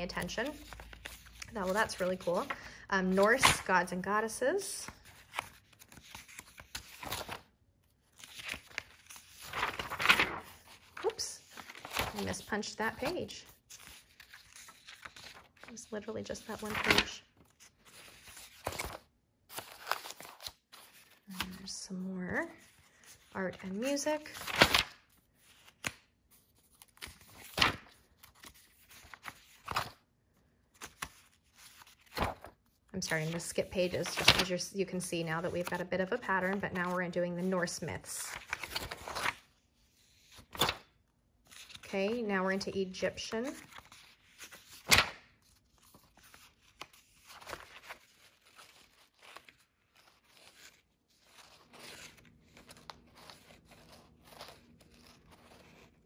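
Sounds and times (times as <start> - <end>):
paper pages turning: 0.0 - 30.1, 30.7 - 56.0.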